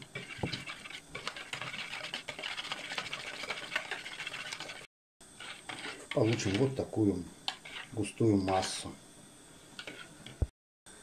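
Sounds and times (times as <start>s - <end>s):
whisk beating in plastic bowl: 0.0s - 8.8s.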